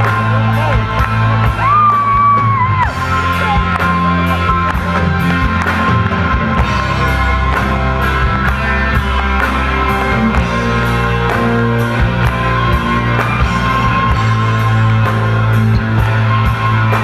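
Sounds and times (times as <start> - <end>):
live rock band playing: 0.0 - 17.0
steady bass: 0.0 - 17.0.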